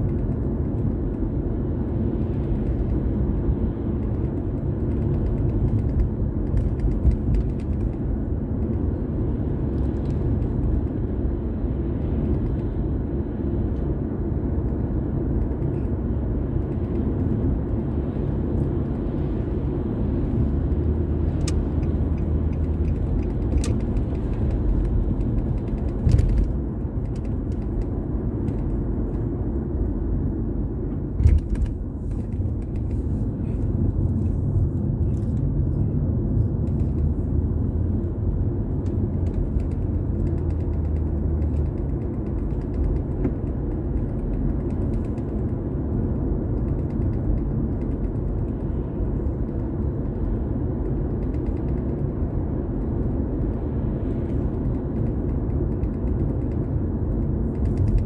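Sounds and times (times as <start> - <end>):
car road and tyre rumble: 0.0 - 58.0.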